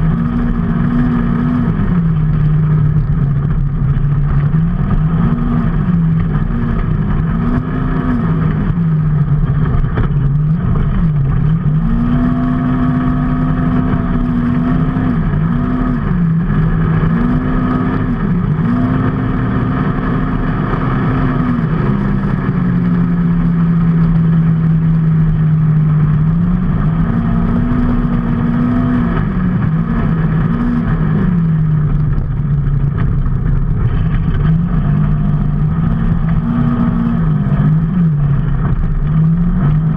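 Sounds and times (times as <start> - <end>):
road and wind noise: 0.0 - 39.9
vehicle engine revving: 0.0 - 39.9.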